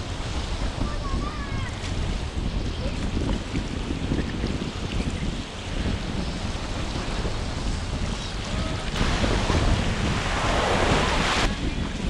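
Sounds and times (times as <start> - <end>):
surf washing on shore: 0.0 - 12.0
wind buffeting microphone: 0.0 - 12.0.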